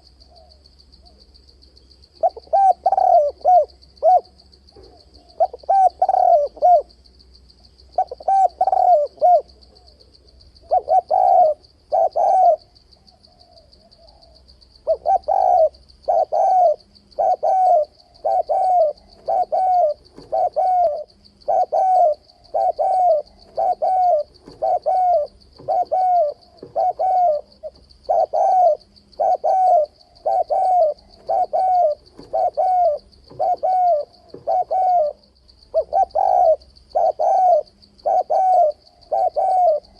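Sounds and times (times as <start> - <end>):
dove cooing: 0.0 - 1.2, 2.1 - 7.0, 7.9 - 39.9.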